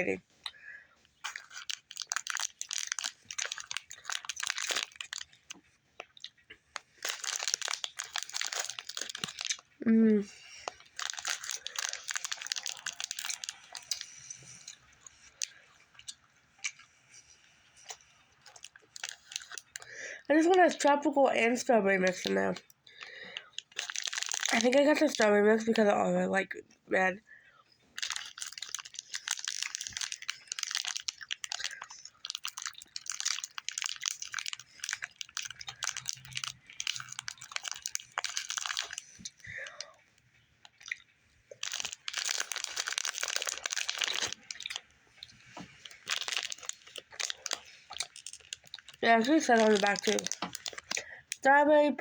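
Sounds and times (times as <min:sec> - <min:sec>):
wet chewing clicks: 0:00.3 - 0:09.8, 0:10.4 - 0:21.0, 0:22.1 - 0:25.3, 0:27.9 - 0:39.9, 0:40.6 - 0:51.4
plastic packet crinkling: 0:01.2 - 0:09.8, 0:10.5 - 0:14.8, 0:17.8 - 0:25.8, 0:28.0 - 0:39.9, 0:40.6 - 0:51.5.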